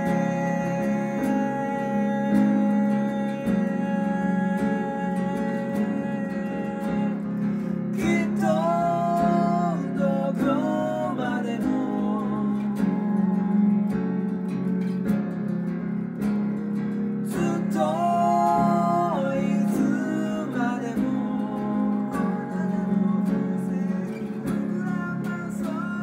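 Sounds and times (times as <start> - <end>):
man singing a ballad: 0.0 - 15.0, 17.2 - 26.0
acoustic guitar accompaniment: 0.0 - 26.0.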